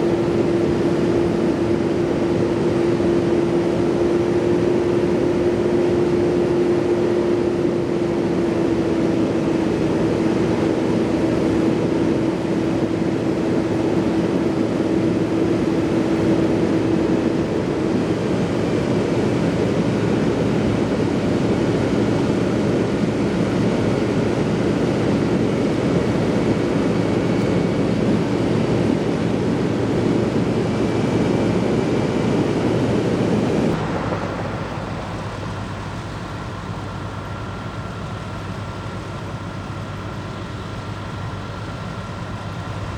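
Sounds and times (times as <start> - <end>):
engine drone: 0.0 - 42.9.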